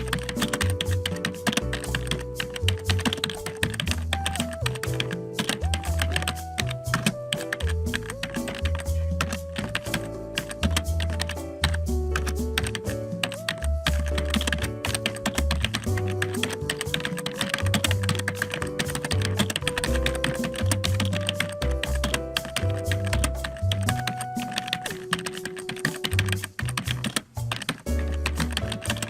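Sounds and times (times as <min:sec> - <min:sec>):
background music with bass line: 0:00.0 - 0:29.0
keyboard typing clatter: 0:00.0 - 0:29.0.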